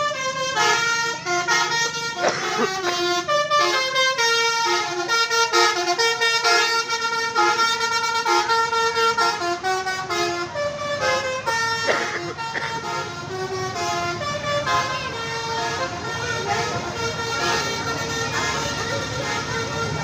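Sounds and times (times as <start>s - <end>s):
bus air horn playing tune: 0.0s - 20.0s.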